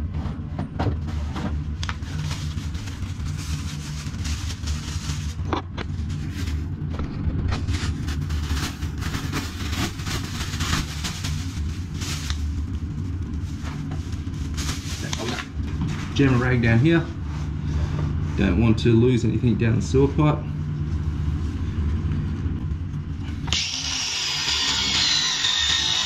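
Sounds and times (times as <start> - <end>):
low rumble: 0.0 - 23.5.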